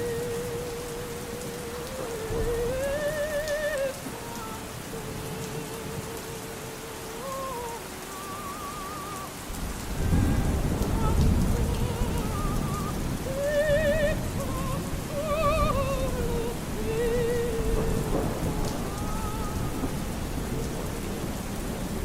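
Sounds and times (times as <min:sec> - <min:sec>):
low rumble of thunder: 0:00.0 - 0:07.2, 0:09.4 - 0:22.0
faint operatic singing: 0:00.0 - 0:22.0
steady rain: 0:00.0 - 0:22.0.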